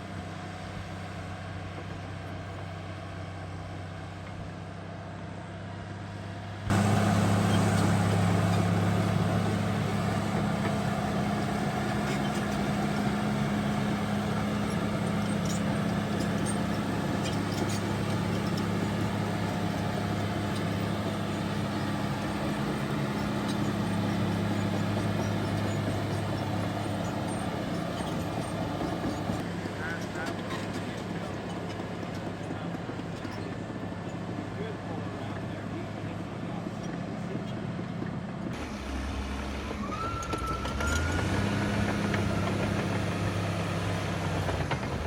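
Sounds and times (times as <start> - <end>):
bulldozer diesel engine running: 0.0 - 45.0.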